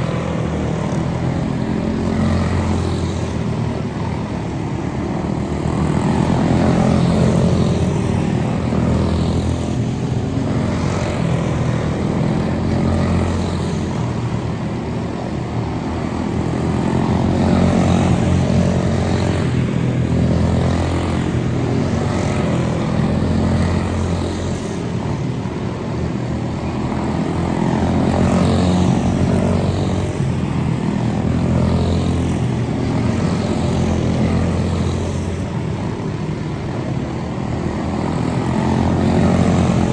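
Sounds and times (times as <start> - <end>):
small race car engines droning: 0.0 - 39.9.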